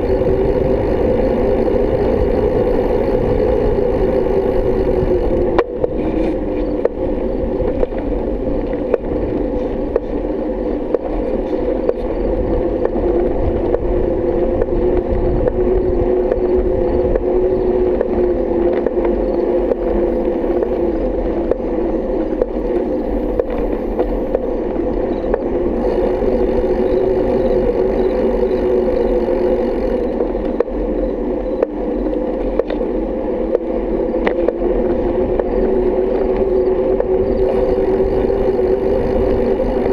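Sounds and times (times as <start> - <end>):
riding hum on paved lane: 0.0 - 39.9.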